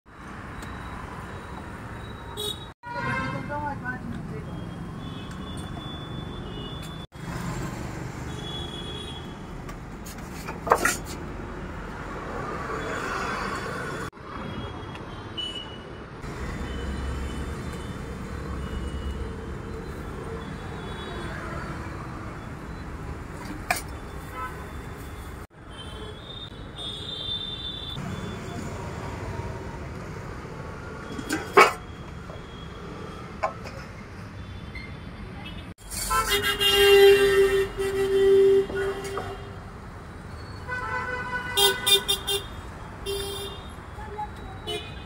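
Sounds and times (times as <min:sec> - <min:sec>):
street traffic noise: 0:00.0 - 0:45.0.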